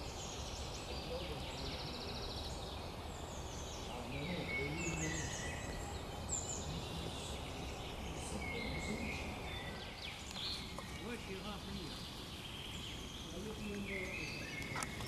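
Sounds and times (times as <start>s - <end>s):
woodland birds singing: 0.0s - 15.0s.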